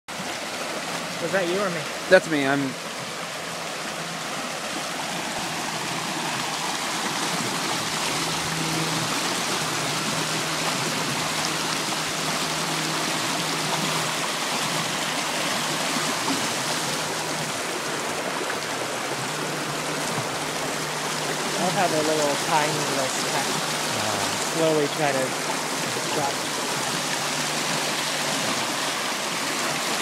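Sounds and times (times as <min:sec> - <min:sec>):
river water rushing: 0:00.1 - 0:30.0.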